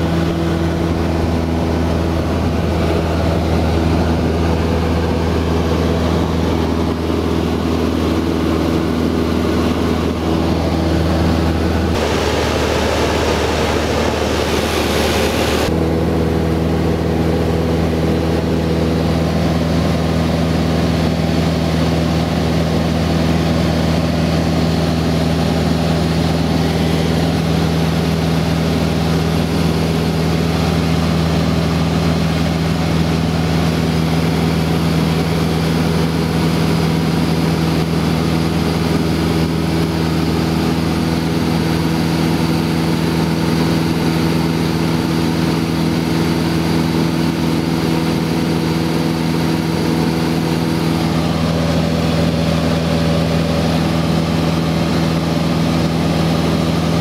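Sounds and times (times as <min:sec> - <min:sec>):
airplane engine drone in cabin: 0:00.0 - 0:57.0.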